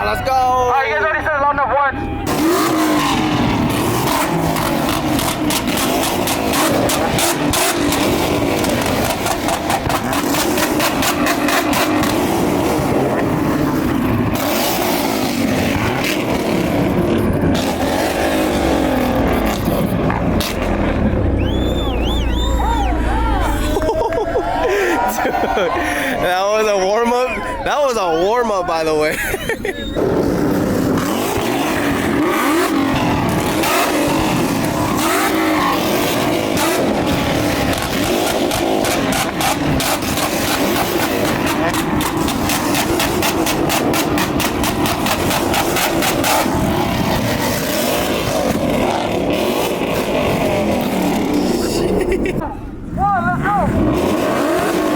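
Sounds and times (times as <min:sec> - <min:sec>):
car engine revving hard: 0:02.0 - 0:54.9.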